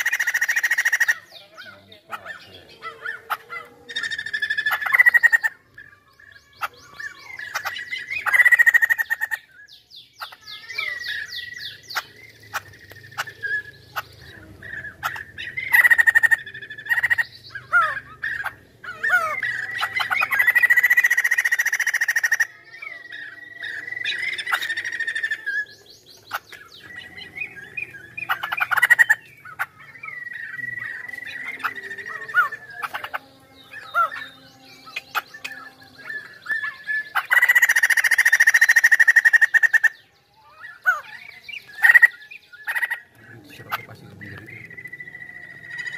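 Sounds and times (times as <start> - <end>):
bird singing varied song: 0.0 - 45.9.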